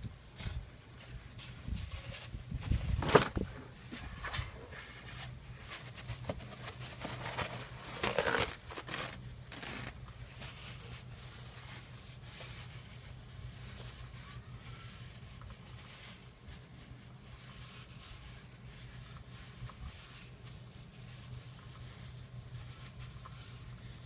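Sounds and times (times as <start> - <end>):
paper towel rustling: 0.3 - 24.0.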